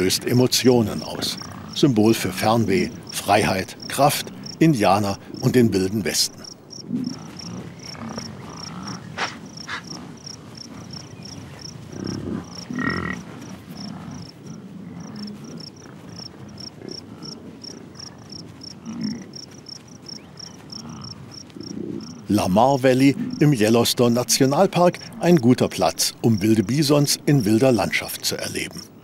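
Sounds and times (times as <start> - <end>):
bison grazing: 0.0 - 29.0
insects chirping: 0.0 - 29.0.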